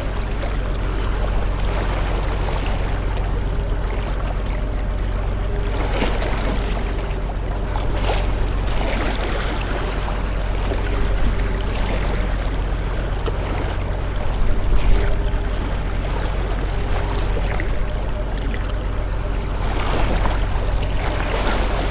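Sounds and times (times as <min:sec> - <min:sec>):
motorboat engine droning: 0:00.0 - 0:21.9
water rushing and splashing: 0:00.0 - 0:21.9.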